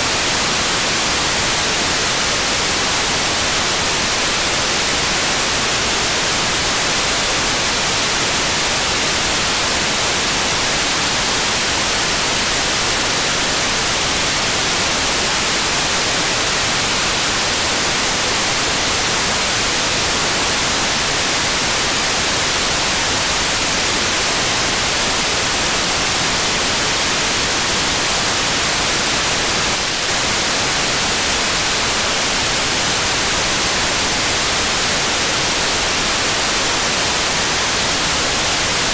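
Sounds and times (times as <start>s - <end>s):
radio receiver static hiss: 0.0s - 38.9s.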